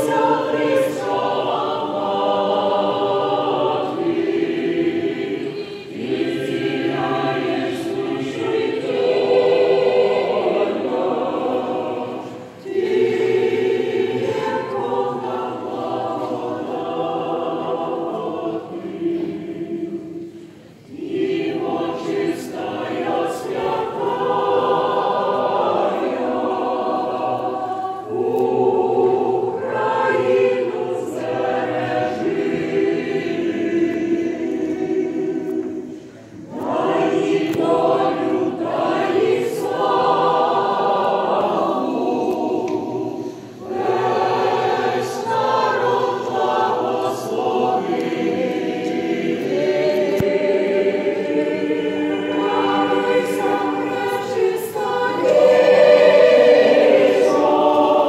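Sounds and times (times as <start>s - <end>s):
choir singing chant: 0.0s - 58.0s.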